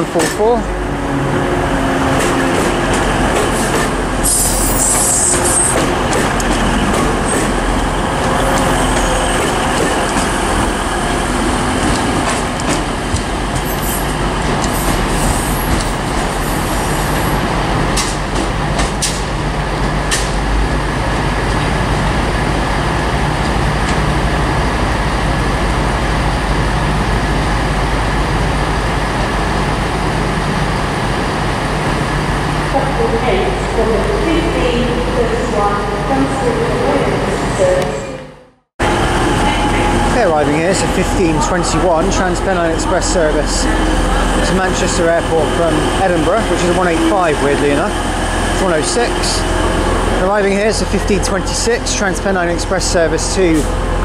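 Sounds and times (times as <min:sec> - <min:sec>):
train engine and rail rumble: 0:00.0 - 0:54.0.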